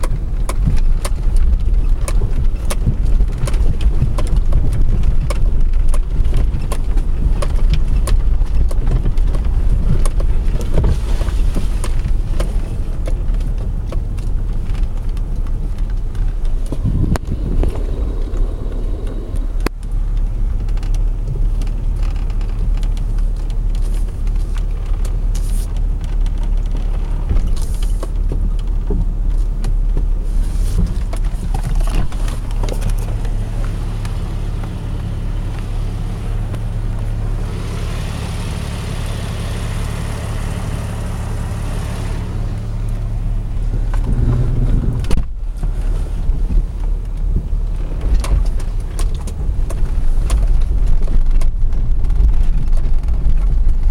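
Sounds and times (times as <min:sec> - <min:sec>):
engine and road rumble: 0:00.0 - 0:53.9.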